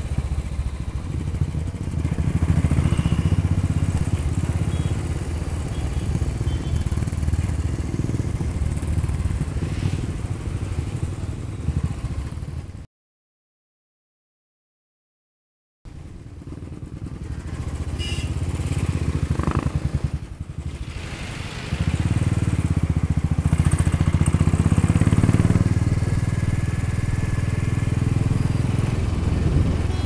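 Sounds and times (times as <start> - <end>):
motorcycle engine running: 0.0 - 12.8, 15.9 - 20.8, 21.8 - 30.0.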